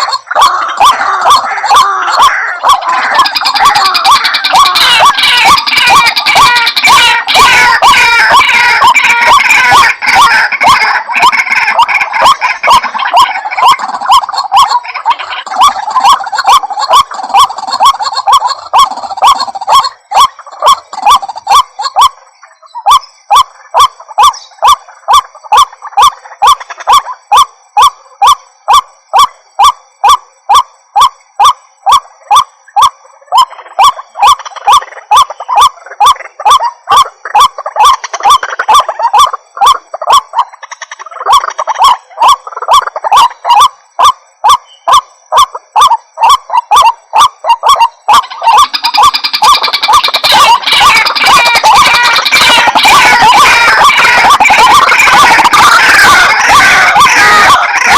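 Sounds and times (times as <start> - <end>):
waterhen calling: 0.0 - 57.9.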